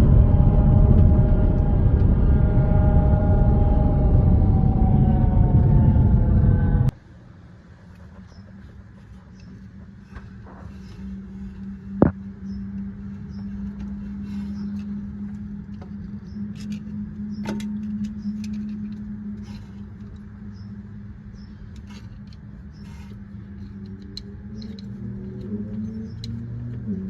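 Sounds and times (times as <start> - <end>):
drivetrain bearing drone: 0.0 - 27.0.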